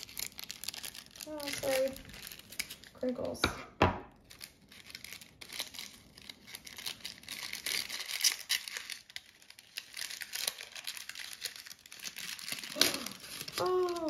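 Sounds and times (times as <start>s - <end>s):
packaging bag crinkling: 0.0s - 3.4s, 4.1s - 14.0s.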